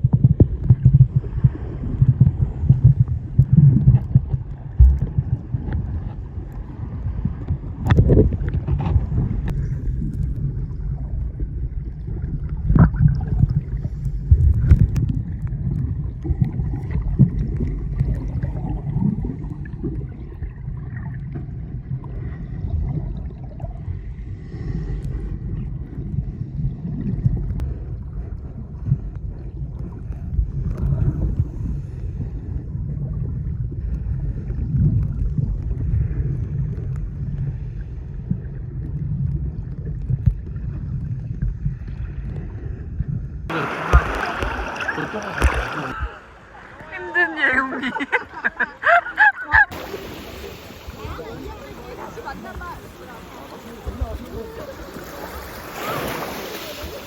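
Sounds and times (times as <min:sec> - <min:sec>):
muffled water sloshing and bubbling: 0:00.0 - 0:57.0.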